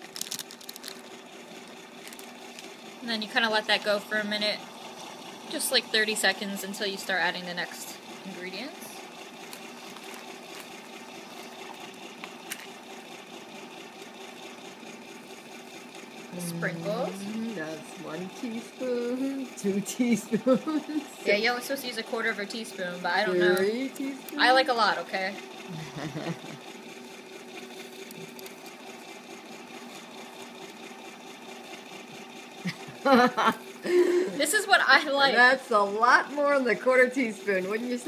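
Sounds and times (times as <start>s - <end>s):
ice cream maker motor humming: 0.0s - 38.0s.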